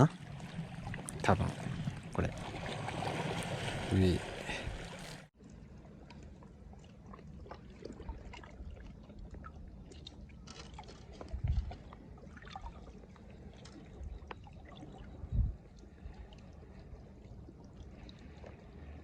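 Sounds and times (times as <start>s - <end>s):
sea water lapping: 0.0s - 19.0s.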